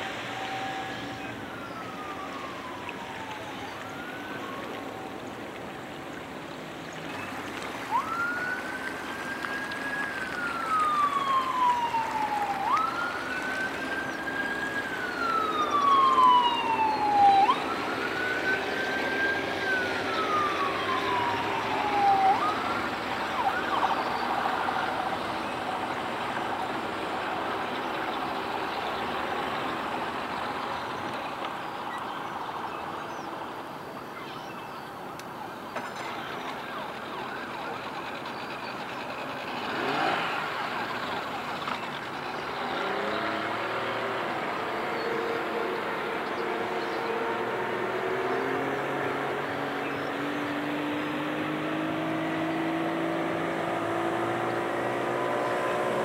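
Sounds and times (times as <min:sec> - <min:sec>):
siren wailing: 0:00.0 - 0:06.3, 0:07.0 - 0:33.0, 0:34.1 - 0:56.0.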